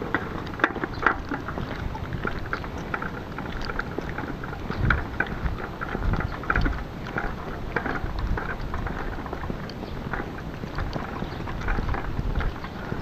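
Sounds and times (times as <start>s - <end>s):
footsteps on wet road: 0.0s - 13.0s
hand cart rattling on asphalt: 0.0s - 13.0s
low rumbles: 0.0s - 13.0s.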